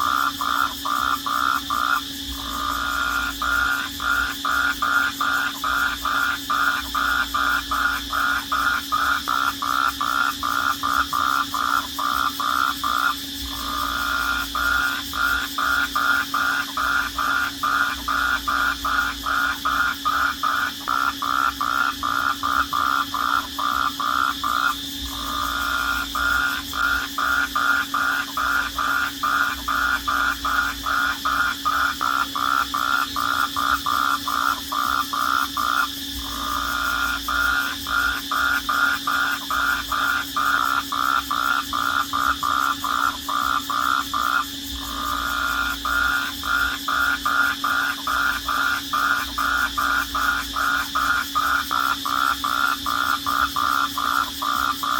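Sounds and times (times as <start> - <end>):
rhythmic pulsing animal call: 0.0 - 54.9.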